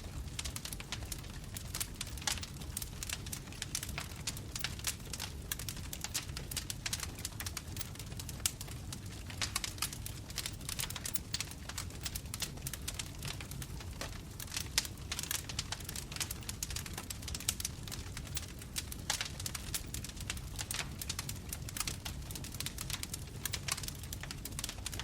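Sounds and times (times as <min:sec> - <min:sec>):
bonfire crackling and popping: 0:00.0 - 0:25.0
low rumble of flames: 0:00.0 - 0:25.0.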